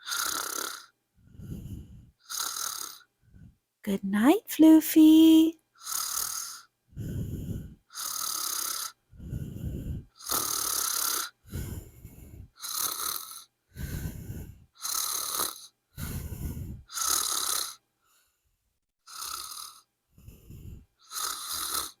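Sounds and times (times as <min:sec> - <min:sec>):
exaggerated snoring: 0:00.0 - 0:03.5, 0:05.8 - 0:17.8, 0:19.1 - 0:22.0.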